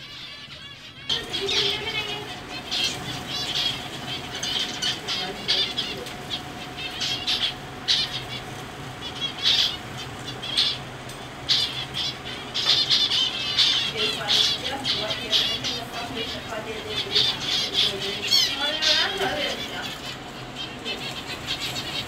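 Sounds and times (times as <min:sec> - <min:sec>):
faint hum: 0:00.0 - 0:22.0
finches chirping: 0:00.0 - 0:22.0.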